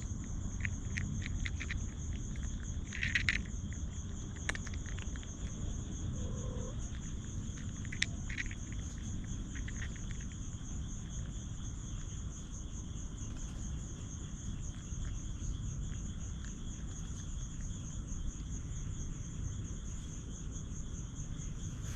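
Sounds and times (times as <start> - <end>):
crickets trilling: 0.0 - 21.9.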